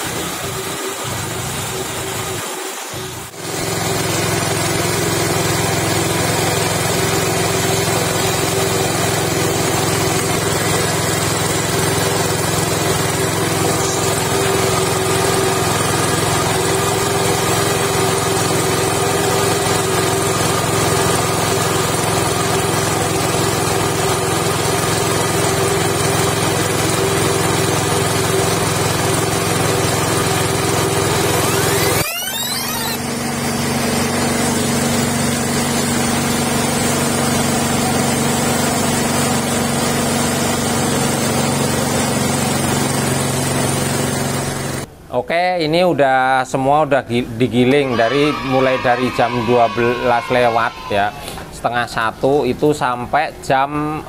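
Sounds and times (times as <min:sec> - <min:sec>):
small petrol engine running: 0:00.0 - 0:44.9.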